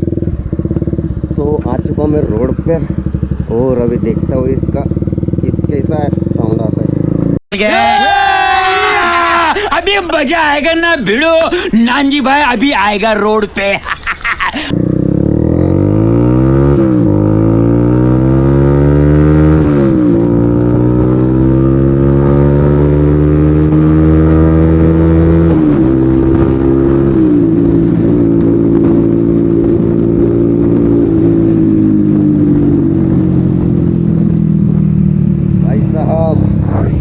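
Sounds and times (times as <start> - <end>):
motorcycle engine accelerating: 0.0 - 7.4, 14.7 - 37.0.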